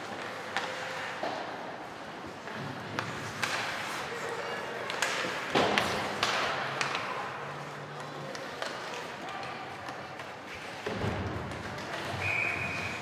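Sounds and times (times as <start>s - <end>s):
crowd voices: 0.0s - 13.0s
hockey sticks and puck knocks: 0.0s - 13.0s.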